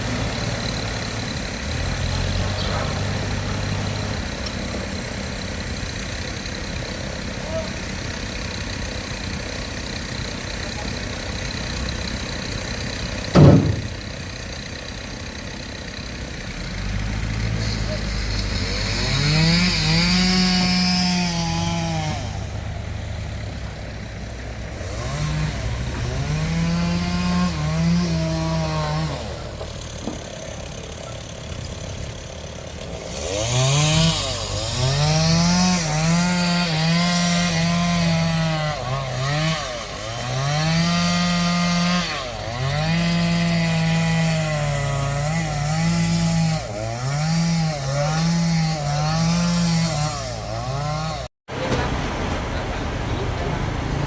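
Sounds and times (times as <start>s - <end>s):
chainsaw cutting wood: 7.2s - 51.3s.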